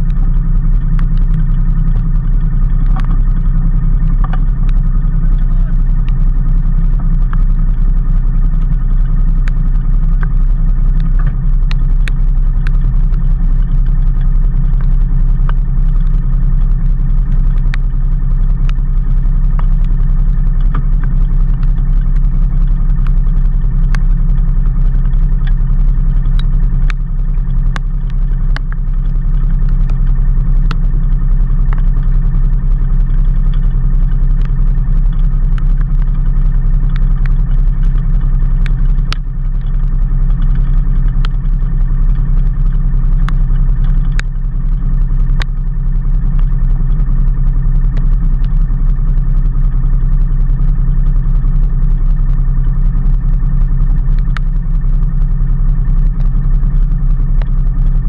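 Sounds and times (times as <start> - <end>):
sharp ticks: 0.0 - 58.0
vehicle engine droning: 0.0 - 58.0.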